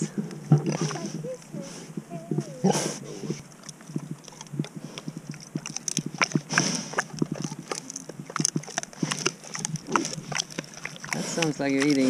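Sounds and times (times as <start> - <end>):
pig chewing and crunching: 0.0 - 12.0.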